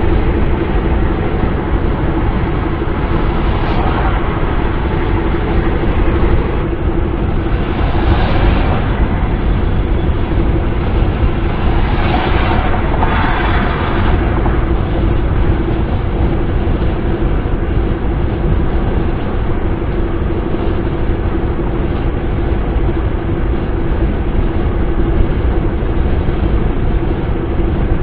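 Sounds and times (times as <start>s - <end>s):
wind hiss: 0.0s - 25.1s
car road noise rumble: 0.0s - 28.0s
constant hum: 0.0s - 28.0s.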